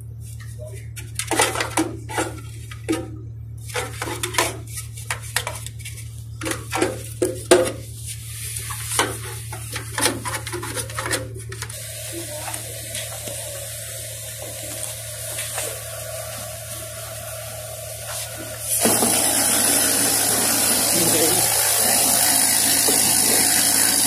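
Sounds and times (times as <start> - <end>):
mechanical hum with held tone: 0.0 - 24.0.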